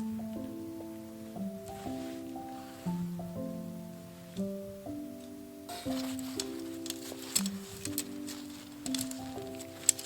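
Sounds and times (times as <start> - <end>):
soft sustained instrumental chords: 0.0 - 10.0.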